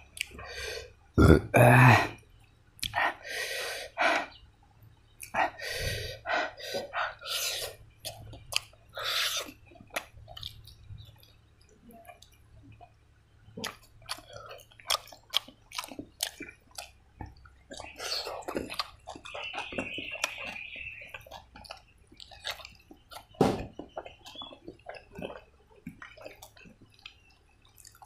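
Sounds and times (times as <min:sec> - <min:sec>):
wet chewing and lip smacks: 0:00.0 - 0:00.5, 0:02.4 - 0:03.2, 0:04.2 - 0:28.0.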